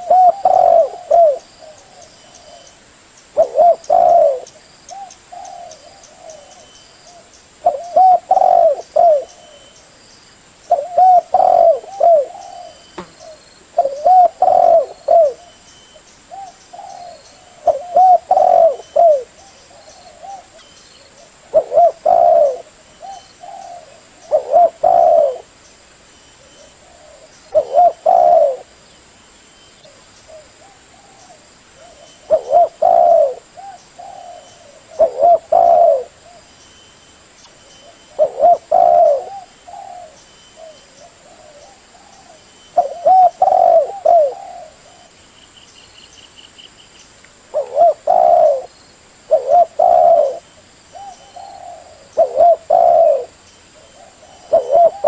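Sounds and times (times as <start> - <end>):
dove cooing: 0.0 - 2.7, 3.3 - 9.8, 10.7 - 15.6, 16.3 - 25.6, 26.4 - 28.8, 29.9 - 36.5, 37.8 - 45.2, 47.5 - 55.0.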